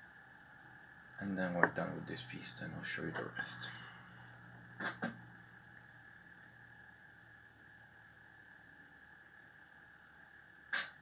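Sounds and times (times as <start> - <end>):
background hiss: 0.0 - 11.0
faint steady hum: 0.0 - 11.0.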